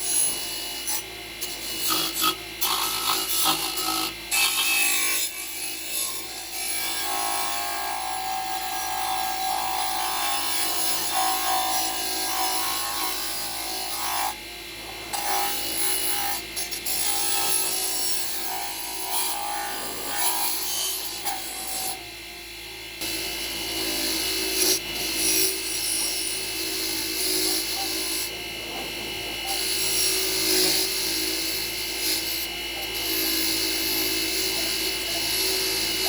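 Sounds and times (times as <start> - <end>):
abrasive tool scraping workpiece: 0.0 - 14.4, 15.1 - 22.0, 23.0 - 36.0.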